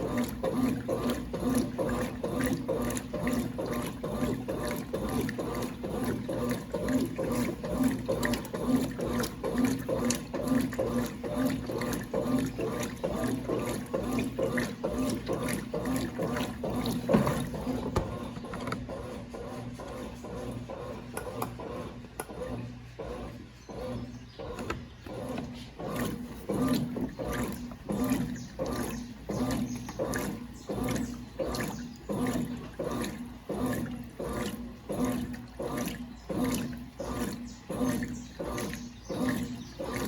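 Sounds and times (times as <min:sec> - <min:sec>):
agitator rhythmic strokes: 0:00.0 - 0:18.2, 0:18.9 - 0:40.0
washing machine motor hum: 0:00.0 - 0:40.0
water sloshing: 0:00.0 - 0:40.0.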